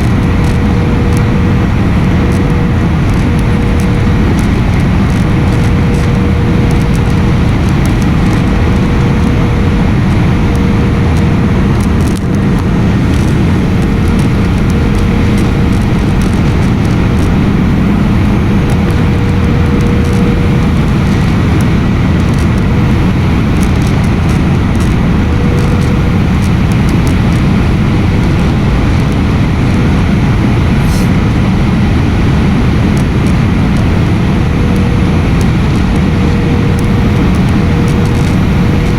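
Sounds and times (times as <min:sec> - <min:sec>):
airliner cabin engine noise: 0:00.0 - 0:38.9
faint steady hum: 0:00.0 - 0:38.9.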